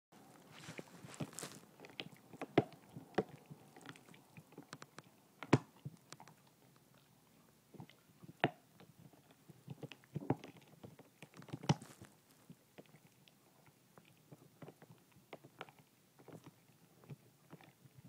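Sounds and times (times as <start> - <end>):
dog gnawing on a bone: 0.2 - 7.1, 7.7 - 18.0.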